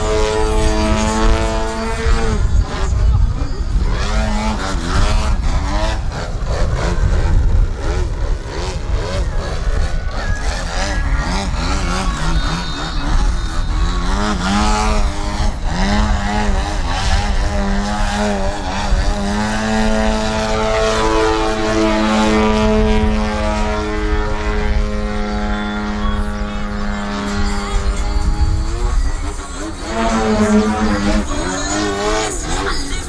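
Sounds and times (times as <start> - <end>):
model plane engine and propeller: 0.0 - 33.0.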